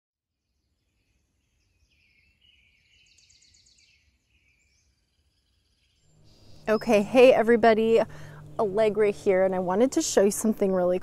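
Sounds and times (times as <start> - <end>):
faint birdsong: 0.3 - 9.8
bird trill: 0.4 - 9.3.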